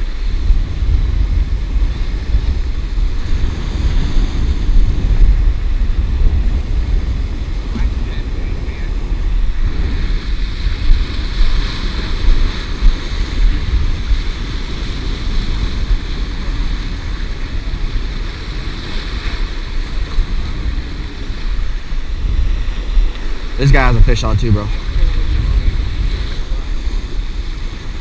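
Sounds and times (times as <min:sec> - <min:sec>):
hiss of surf: 0:00.0 - 0:28.0
waves splashing against boulders: 0:00.0 - 0:28.0
wind rumbling on microphone: 0:00.0 - 0:28.0.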